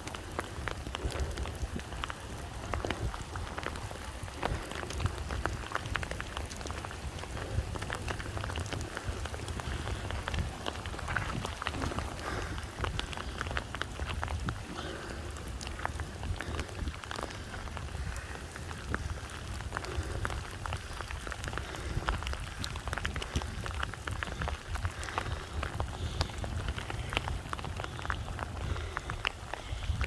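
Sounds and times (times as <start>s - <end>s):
rain drops hitting: 0.0s - 30.0s
rain hiss: 0.0s - 30.0s
steady low rumble: 0.0s - 30.0s.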